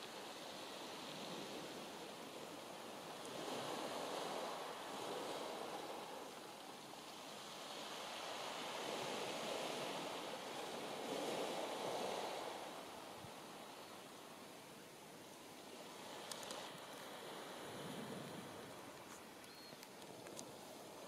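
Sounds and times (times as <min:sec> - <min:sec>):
sea waves washing onto beach: 0:00.0 - 0:21.0
wind blowing: 0:00.3 - 0:21.0.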